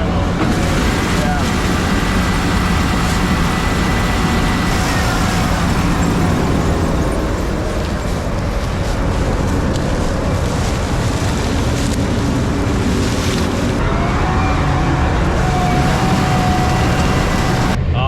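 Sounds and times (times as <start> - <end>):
combine harvester drone: 0.0 - 18.0
faint machinery whine: 0.0 - 18.0.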